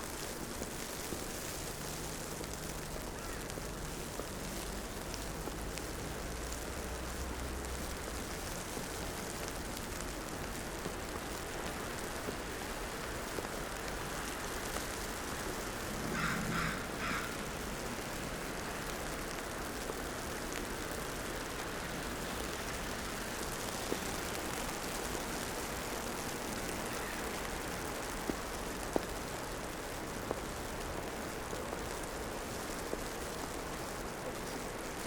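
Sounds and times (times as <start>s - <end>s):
traffic hiss: 0.0s - 35.0s.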